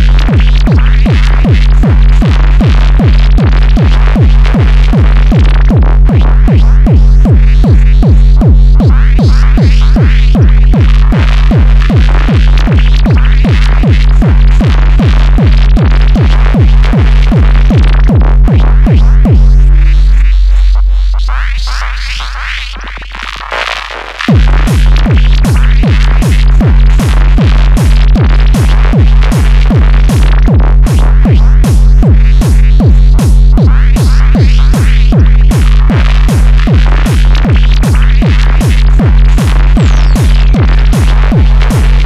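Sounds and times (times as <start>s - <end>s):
kick drum: 0.0s - 20.0s, 24.3s - 42.0s
deep bass note: 0.0s - 42.0s
synthesizer: 0.0s - 42.0s.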